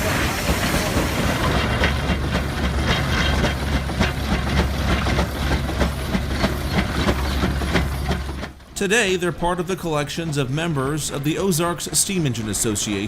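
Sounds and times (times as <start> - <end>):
low engine rumble: 0.0 - 13.0
steam engine exhaust chuffing: 0.0 - 13.0.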